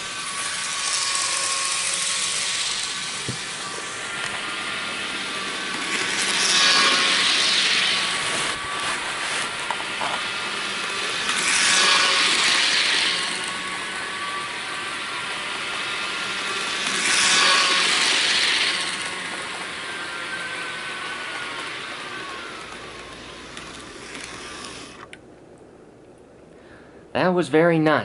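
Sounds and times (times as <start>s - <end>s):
model train whirring and rattling: 0.0s - 25.2s.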